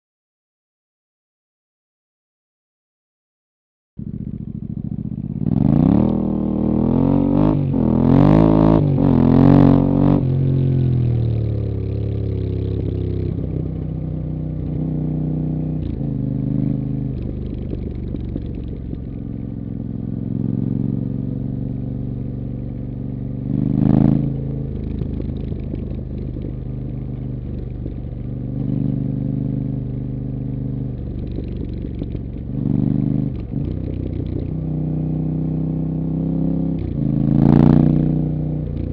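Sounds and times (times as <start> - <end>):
motorcycle engine revving: 4.0 - 38.9.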